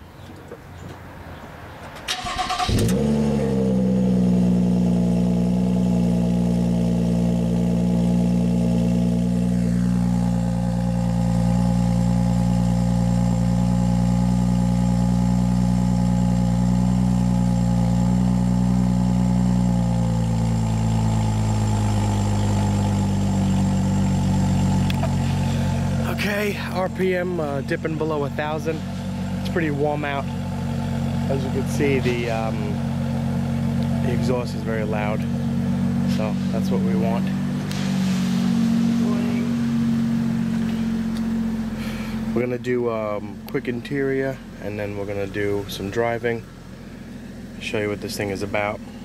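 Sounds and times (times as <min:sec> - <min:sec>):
car engine starting and idling: 0:00.1 - 0:49.0.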